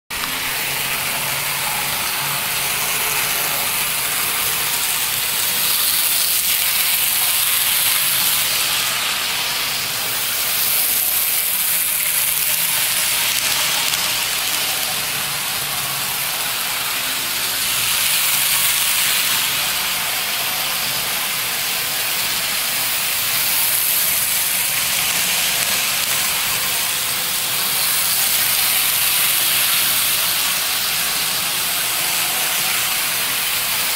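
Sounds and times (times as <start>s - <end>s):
model trains whirring on rails: 0.1s - 33.9s.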